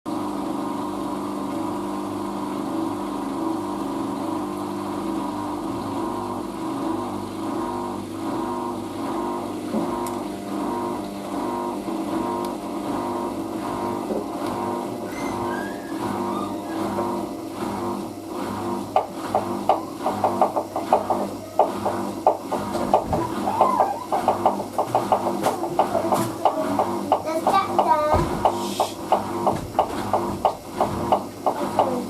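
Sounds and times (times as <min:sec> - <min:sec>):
washing machine spinning: 0:00.1 - 0:32.0.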